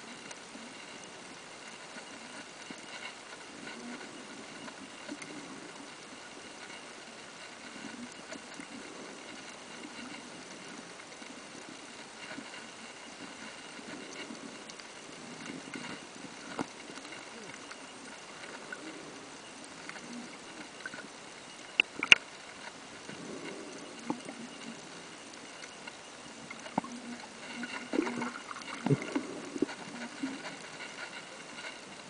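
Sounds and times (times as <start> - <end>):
soft low rumbles: 0.0 - 32.0
faint clicks: 0.1 - 32.0.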